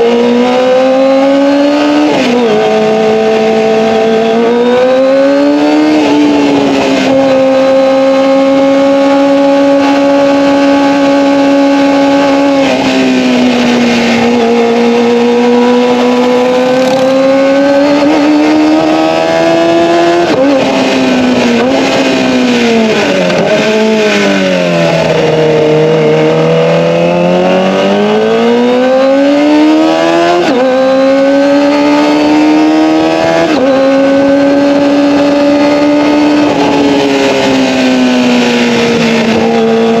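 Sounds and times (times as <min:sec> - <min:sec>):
motorcycle engine howling at high revs: 0:00.0 - 0:40.0.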